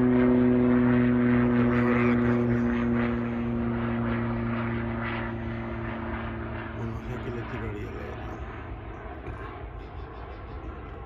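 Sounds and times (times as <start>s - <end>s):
distant engine drone: 0.0s - 11.0s.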